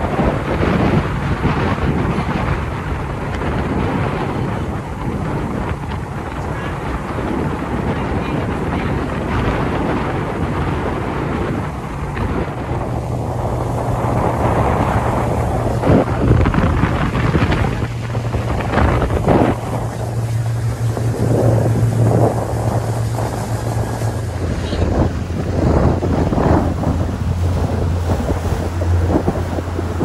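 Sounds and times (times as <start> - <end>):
motorboat engine hum: 0.0 - 30.0
water rushing past hull: 0.0 - 30.0
wind buffeting on microphone: 0.0 - 30.0.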